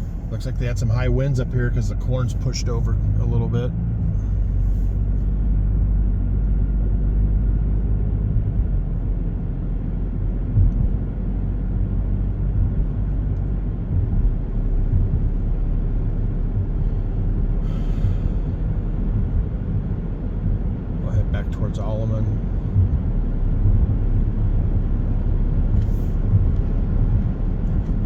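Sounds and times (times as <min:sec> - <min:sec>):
road and engine rumble in car: 0:00.0 - 0:28.0.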